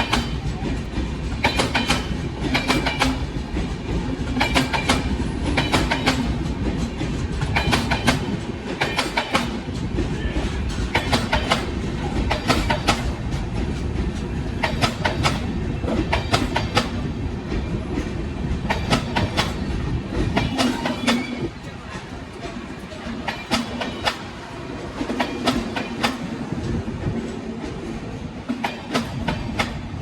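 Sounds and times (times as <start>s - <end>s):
steady train rumble: 0.0s - 30.0s
train wheels clicking over rail joints: 0.0s - 30.0s.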